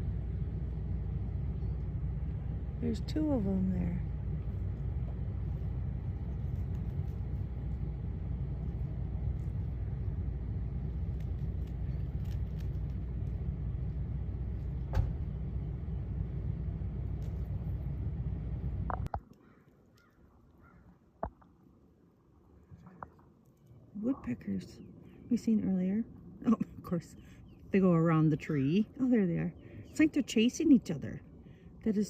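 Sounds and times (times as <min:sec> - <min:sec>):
steady low rumble: 0:00.0 - 0:19.2, 0:20.4 - 0:32.0.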